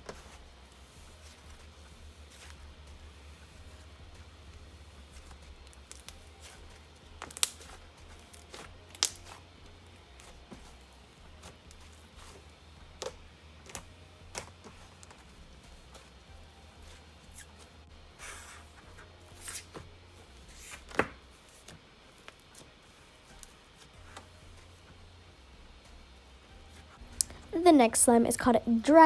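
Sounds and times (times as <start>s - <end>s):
soft crackling rush: 0.0s - 29.0s.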